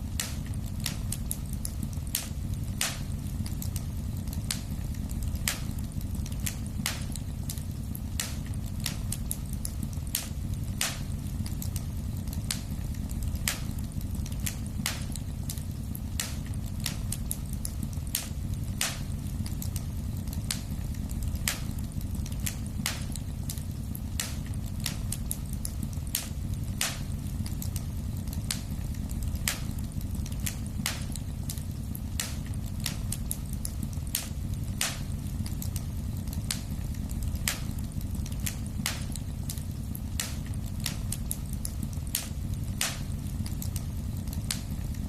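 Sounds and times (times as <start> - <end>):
flames rumbling: 0.0 - 45.0
wood fire crackling and popping: 0.0 - 45.0.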